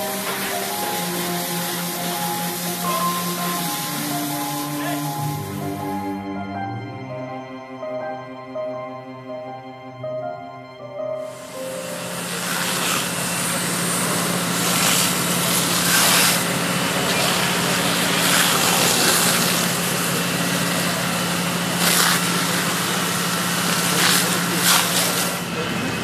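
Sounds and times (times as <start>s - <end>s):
hose jet hissing: 0.0s - 6.4s, 11.1s - 26.0s.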